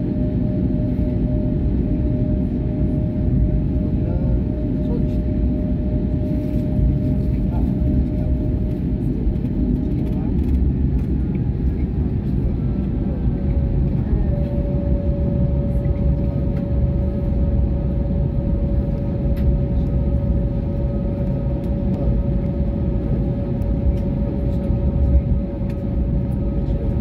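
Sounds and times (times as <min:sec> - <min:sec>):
airliner cabin rumble: 0:00.0 - 0:27.0
jet engine whine: 0:00.0 - 0:27.0.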